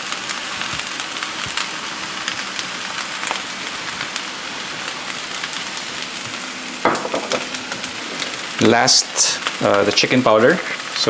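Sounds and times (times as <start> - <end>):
rice sizzling in hot pan: 0.0 - 11.0.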